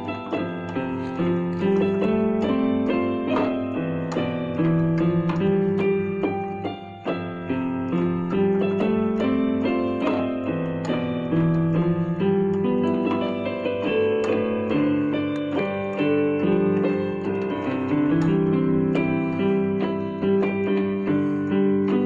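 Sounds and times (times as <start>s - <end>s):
keyboard piano melody: 0.0s - 22.0s.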